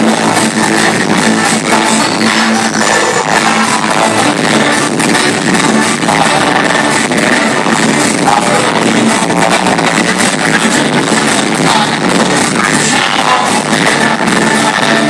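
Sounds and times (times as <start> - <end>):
loud live synth-pop music: 0.0 - 15.0.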